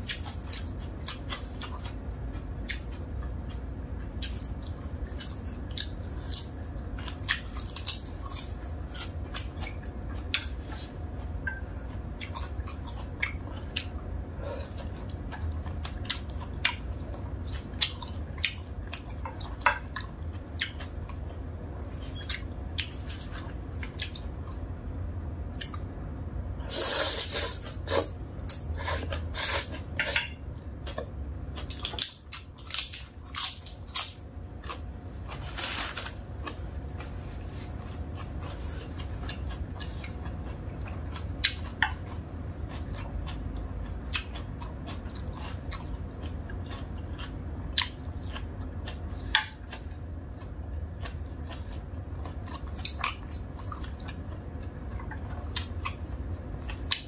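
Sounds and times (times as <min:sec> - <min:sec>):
person chewing noodles: 0:00.0 - 0:24.7, 0:26.6 - 0:57.0
steady low hum: 0:00.0 - 0:57.0.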